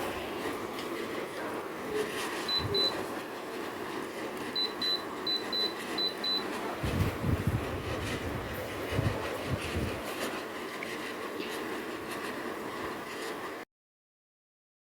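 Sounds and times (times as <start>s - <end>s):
steady hum: 0.0s - 13.6s.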